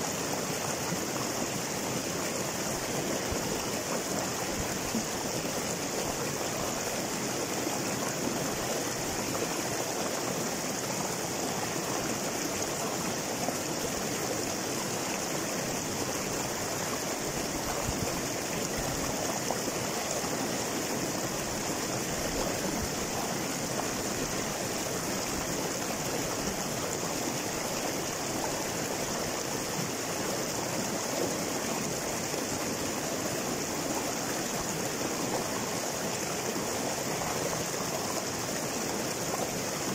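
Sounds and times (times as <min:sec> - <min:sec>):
river water rushing over boulders: 0:00.0 - 0:39.9.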